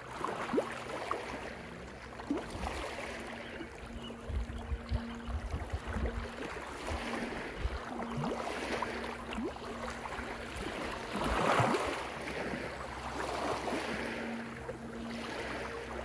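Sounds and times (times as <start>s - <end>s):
small waves lapping on rocks: 0.0s - 4.2s, 4.9s - 16.0s.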